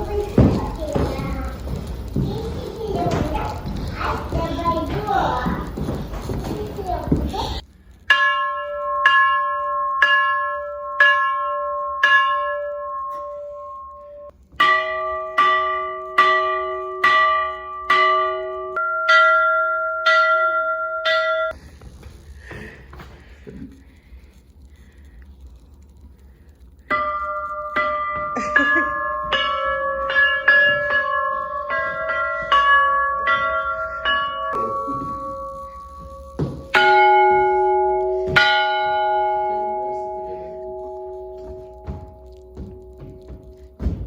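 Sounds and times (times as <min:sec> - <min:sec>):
large low bell striking: 0:00.0 - 0:05.9, 0:08.0 - 0:21.6, 0:26.9 - 0:44.0
church bells ringing: 0:00.0 - 0:07.2, 0:08.0 - 0:21.6, 0:26.9 - 0:44.0.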